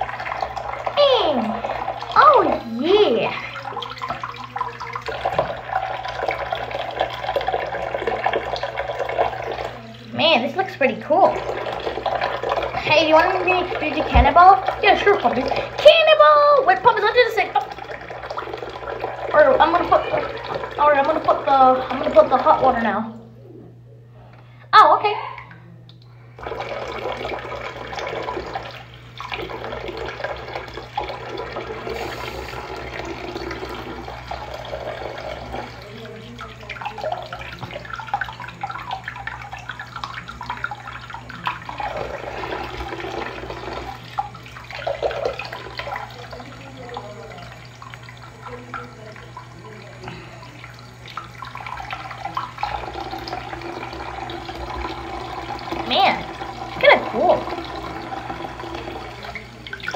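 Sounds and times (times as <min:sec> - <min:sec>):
faucet water pouring into basin: 0:00.0 - 0:23.4, 0:24.9 - 0:59.9.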